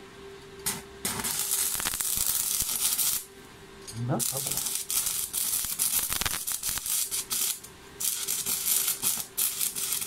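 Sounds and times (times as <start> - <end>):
welding arc crackling: 0.6 - 3.3, 4.1 - 10.0.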